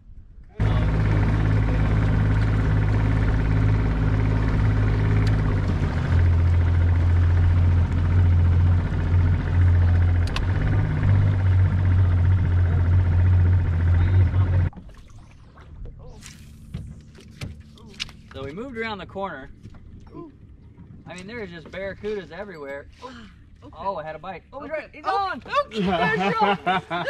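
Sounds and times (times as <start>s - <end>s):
outboard motor running: 0.6s - 27.0s.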